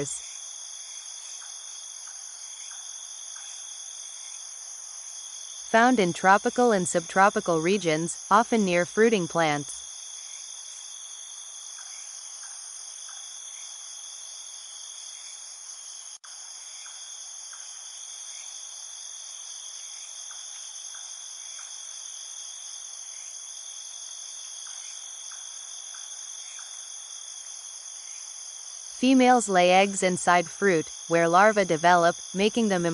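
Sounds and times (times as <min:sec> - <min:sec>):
insects chorus: 0:00.0 - 0:32.9.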